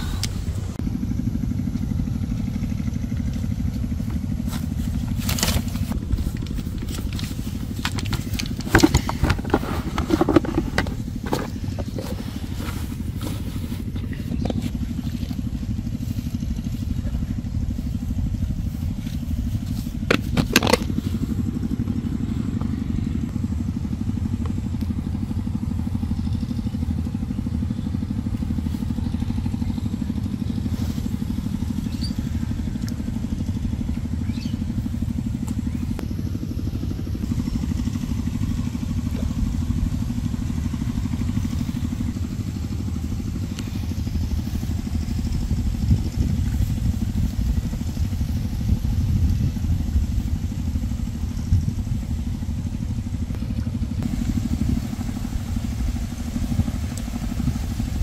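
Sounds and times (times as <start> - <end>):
wind buffeting microphone: 3.0 - 58.0.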